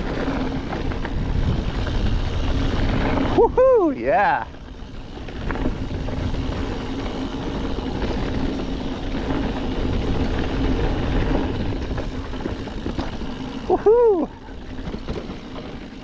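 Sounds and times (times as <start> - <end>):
wind noise on microphone: 0.0 - 15.2
bike tyres rolling over dirt: 0.0 - 16.0.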